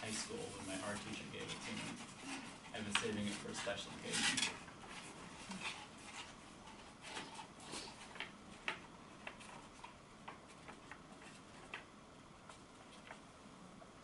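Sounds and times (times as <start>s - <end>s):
paper scroll crinkling: 0.0s - 11.8s, 12.4s - 13.2s.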